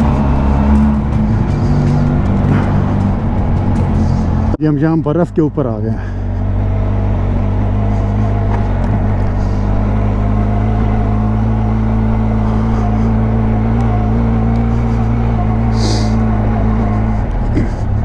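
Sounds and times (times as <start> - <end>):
motorcycle engine running: 0.0 - 4.6, 6.0 - 18.0.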